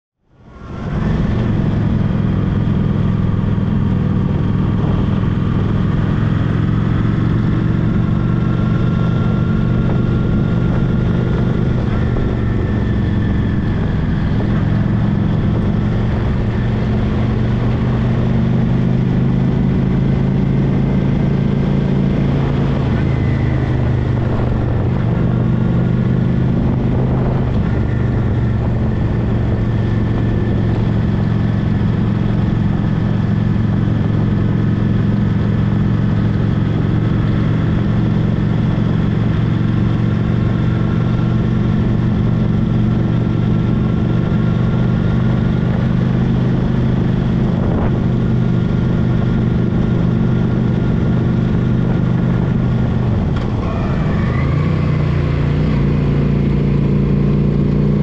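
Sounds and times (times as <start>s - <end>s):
motorcycle engine cruising: 0.2s - 58.0s.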